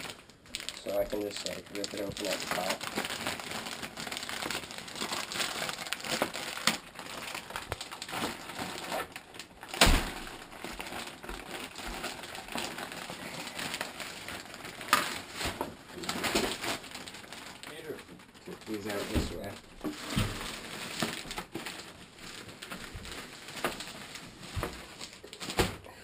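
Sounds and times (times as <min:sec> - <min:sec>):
plastic bag crinkling: 0:00.0 - 0:25.7.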